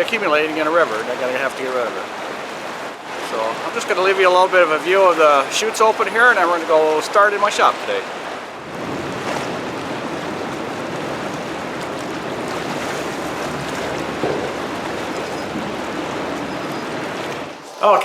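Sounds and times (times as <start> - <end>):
water rushing through dam chute: 0.0 - 18.0.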